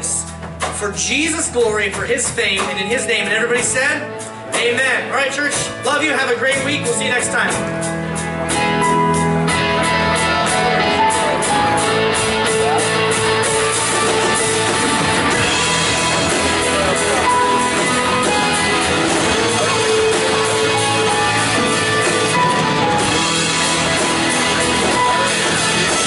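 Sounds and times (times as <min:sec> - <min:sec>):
band music with guitar: 0:00.0 - 0:26.0.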